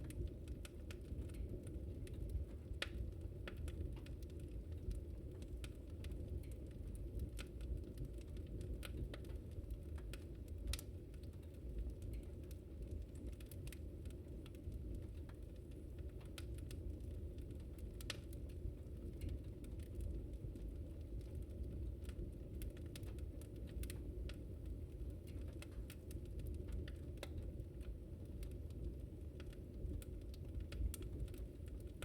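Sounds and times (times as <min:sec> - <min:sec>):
fire crackling and popping: 0:00.0 - 0:32.0.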